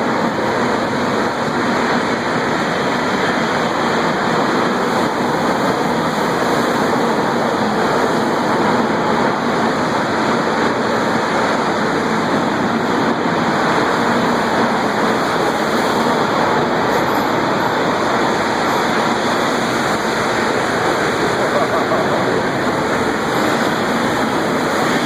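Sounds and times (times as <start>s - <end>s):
furnace roaring: 0.0s - 25.0s.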